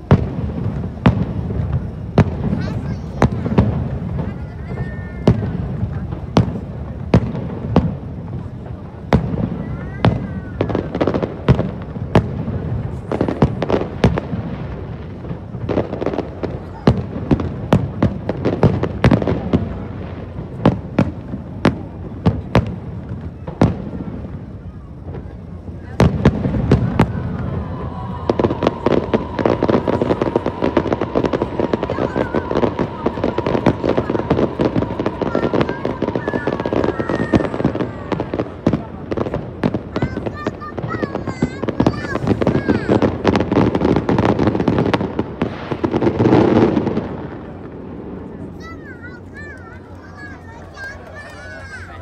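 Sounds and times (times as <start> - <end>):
firework whistles: 0.0 - 47.7
fireworks booming and cracking: 0.0 - 52.0.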